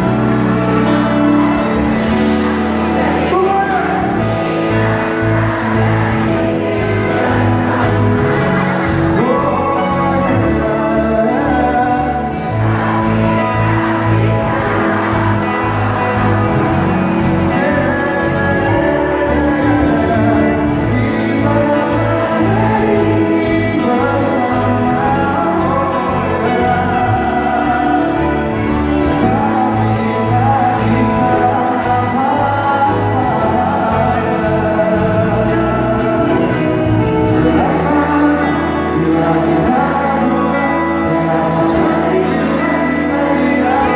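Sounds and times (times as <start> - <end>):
live pop band playing: 0.0 - 43.9
person singing: 0.0 - 43.9.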